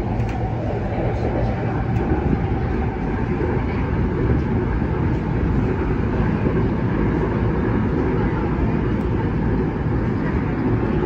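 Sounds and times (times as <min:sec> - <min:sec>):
electric train rumbling on rails: 0:00.0 - 0:11.0.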